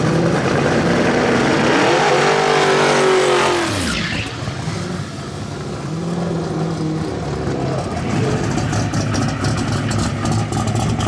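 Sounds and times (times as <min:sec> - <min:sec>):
drag race car passing by: 0:00.0 - 0:11.0.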